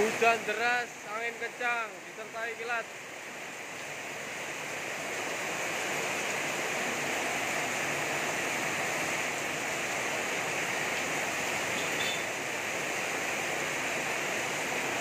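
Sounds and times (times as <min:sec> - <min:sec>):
heavy rain on flooded street: 0:00.0 - 0:15.0.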